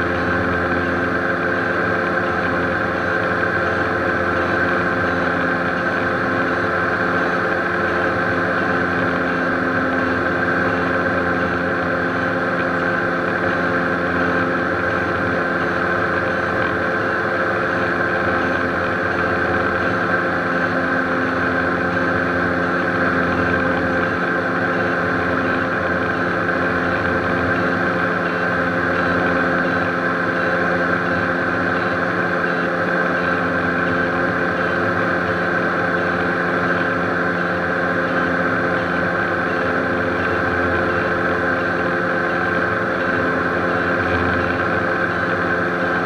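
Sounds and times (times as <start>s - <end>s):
aircraft cockpit engine drone: 0.0s - 46.0s.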